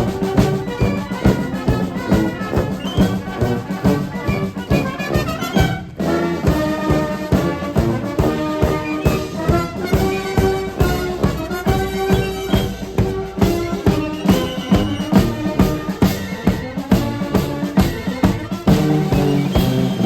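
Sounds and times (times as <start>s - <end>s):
brass band playing: 0.0s - 20.0s
steady drum beat: 0.0s - 20.0s.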